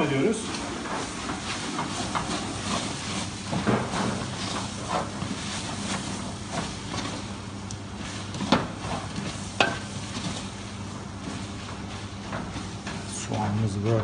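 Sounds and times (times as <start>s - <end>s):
onions sizzling in a pot: 0.0s - 14.0s
wooden spoon stirring onions: 0.0s - 14.0s.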